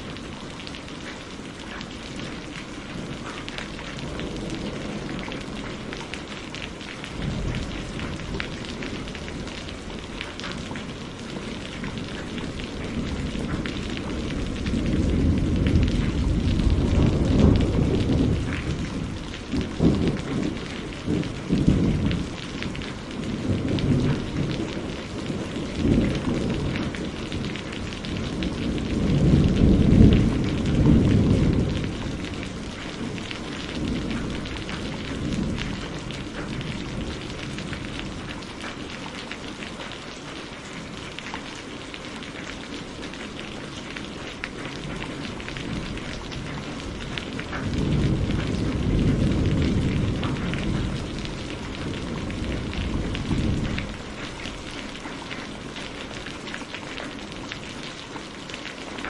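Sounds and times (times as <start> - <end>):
steady rain: 0.0 - 59.0
rolling thunder: 2.1 - 38.7, 44.6 - 55.8.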